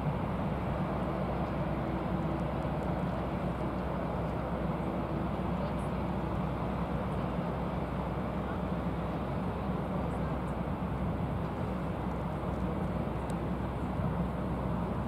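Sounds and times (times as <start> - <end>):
low jet rumble: 0.0 - 15.0.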